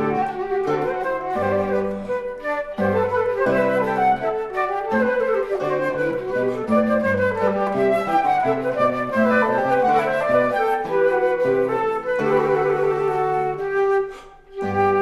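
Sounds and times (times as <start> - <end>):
flutes playing melody: 0.0 - 15.0.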